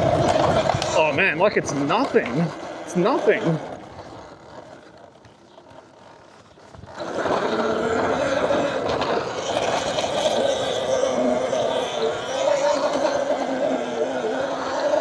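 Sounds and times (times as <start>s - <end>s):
electric dirt bike riding noise: 0.0s - 15.0s.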